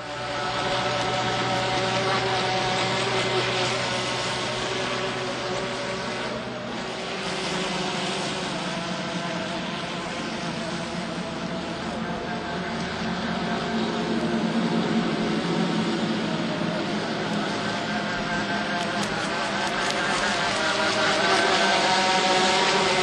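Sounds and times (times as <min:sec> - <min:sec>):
electric motor whine: 0:00.0 - 0:23.0
water spray hissing off hull: 0:00.0 - 0:23.0.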